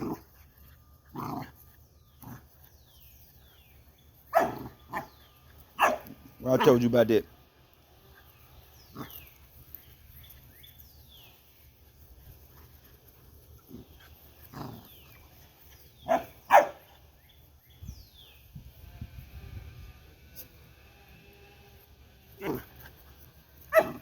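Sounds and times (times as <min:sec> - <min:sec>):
puppies yipping and barking: 0:00.0 - 0:06.9, 0:07.6 - 0:24.0.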